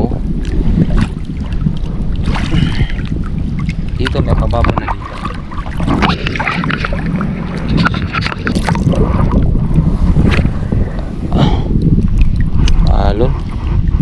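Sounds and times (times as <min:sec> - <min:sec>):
sea water sloshing: 0:00.0 - 0:14.0
water splashes: 0:00.0 - 0:14.0
wind buffeting microphone: 0:00.0 - 0:14.0.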